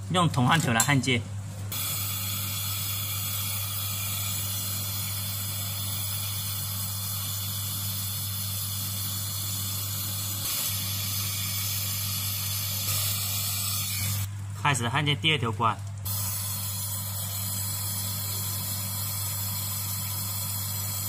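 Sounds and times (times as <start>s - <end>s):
gas torch hissing: 1.7s - 14.3s, 16.1s - 21.0s.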